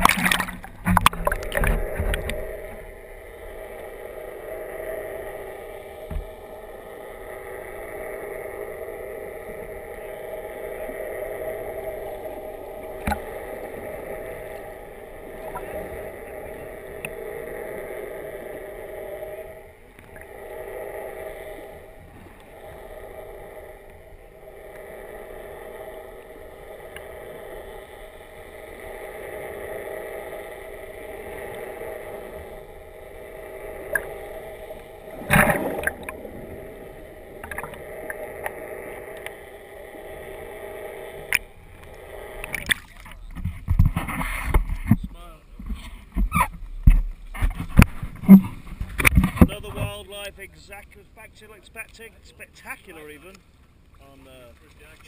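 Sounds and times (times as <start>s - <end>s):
muffled underwater drone: 0.0s - 55.0s.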